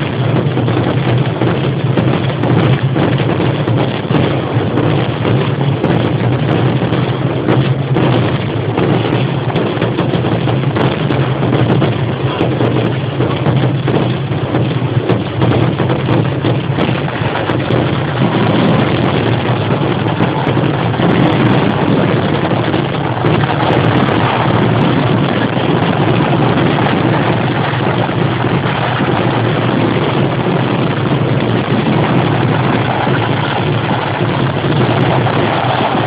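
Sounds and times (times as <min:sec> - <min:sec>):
fireworks barrage: 0:00.0 - 0:36.0.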